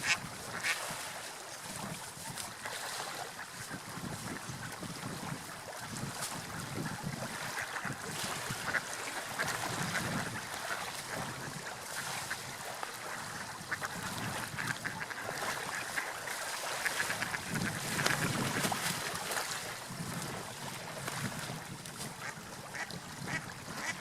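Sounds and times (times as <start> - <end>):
sea waves: 0.0 - 24.0
wind: 0.0 - 24.0.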